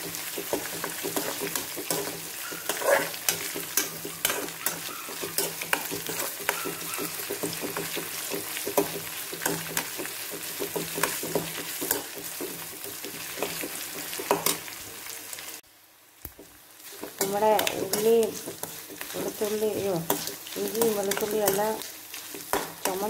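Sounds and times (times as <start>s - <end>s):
food sizzling in hot oil: 0.0s - 23.0s
metal spatula scraping a pan: 0.3s - 14.7s, 16.8s - 23.0s.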